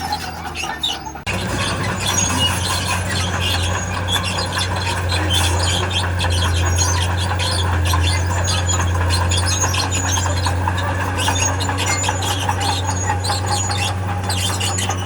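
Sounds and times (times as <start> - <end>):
diesel engine running: 0.0 - 15.0
steel tracks squealing: 0.0 - 15.0.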